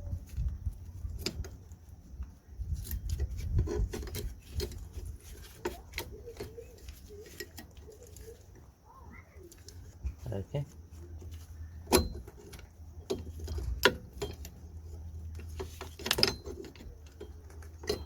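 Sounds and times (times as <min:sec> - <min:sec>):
metal brake parts clicking: 0:00.3 - 0:08.7, 0:09.4 - 0:18.0.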